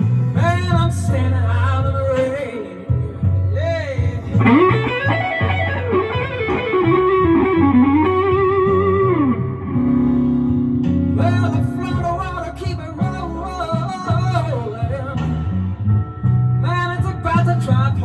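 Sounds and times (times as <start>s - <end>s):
bass notes: 0.0s - 18.0s
electric guitar blues lead: 0.3s - 18.0s.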